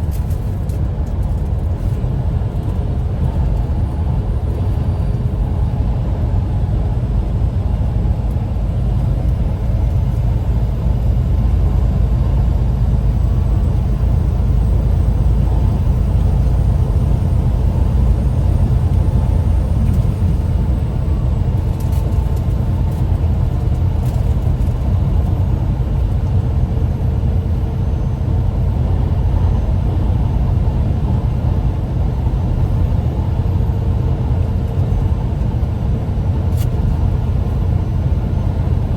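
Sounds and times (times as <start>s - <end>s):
car cabin low rumble: 0.0s - 38.9s.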